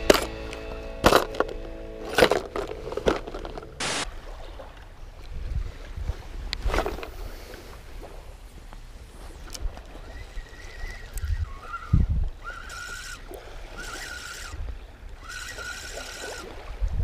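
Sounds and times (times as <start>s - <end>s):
low wind rumble: 0.0s - 13.8s.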